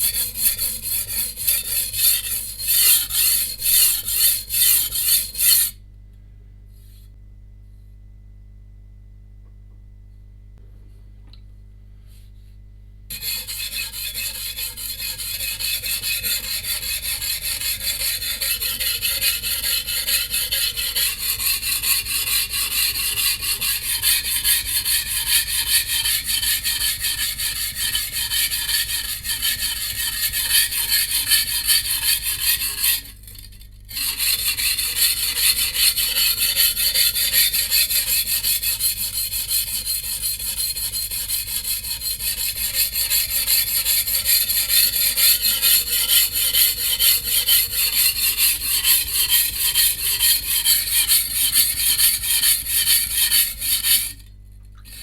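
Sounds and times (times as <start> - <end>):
blade rasping on wet whetstone: 0.0 - 5.7, 13.1 - 54.2.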